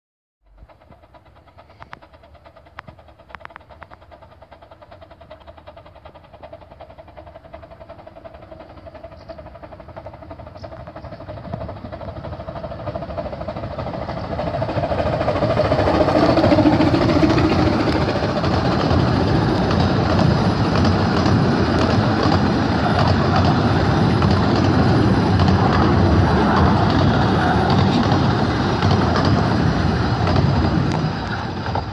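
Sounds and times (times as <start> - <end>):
steam locomotive pulling away: 0.5 - 31.9.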